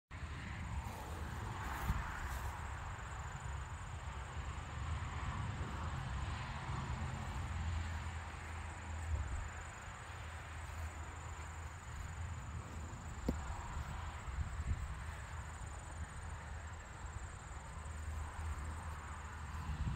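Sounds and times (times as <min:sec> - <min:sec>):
insects droning: 0:00.2 - 0:19.9.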